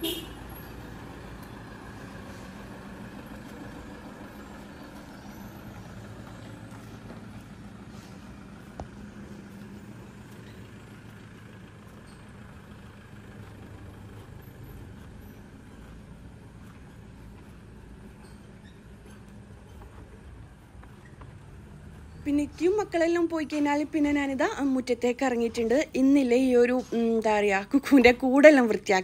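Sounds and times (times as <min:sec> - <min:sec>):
car engine idling: 0:00.0 - 0:27.2.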